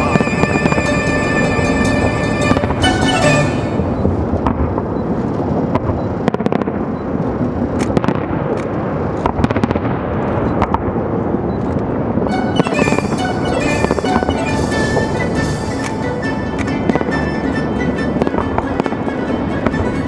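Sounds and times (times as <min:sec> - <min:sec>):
fireworks booming: 0:00.0 - 0:20.0
fireworks sharp cracks: 0:00.0 - 0:20.0.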